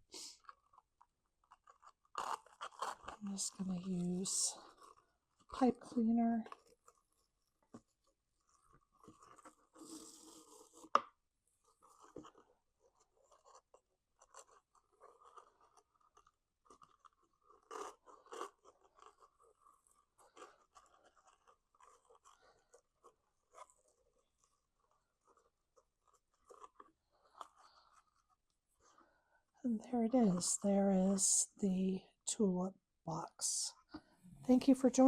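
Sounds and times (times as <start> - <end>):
cardstock rustling and crinkling: 0.3 - 11.0, 11.6 - 29.0.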